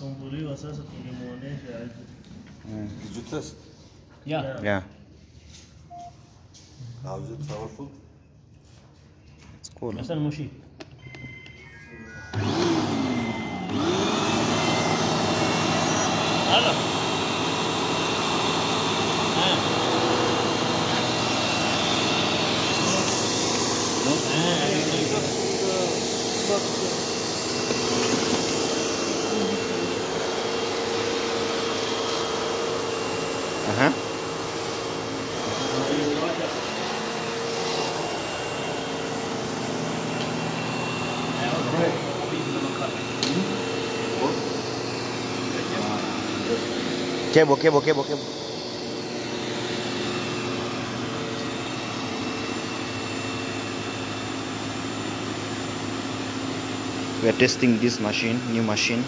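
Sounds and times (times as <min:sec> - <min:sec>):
vacuum cleaner running: 0:10.8 - 0:59.0.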